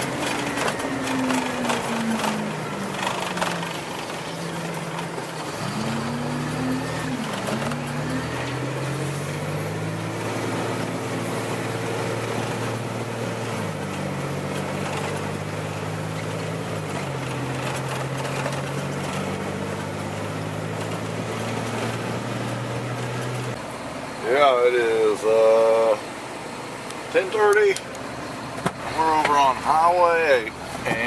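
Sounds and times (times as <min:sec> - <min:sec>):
road noise: 0:00.0 - 0:31.0
vehicle engine while driving: 0:00.0 - 0:31.0.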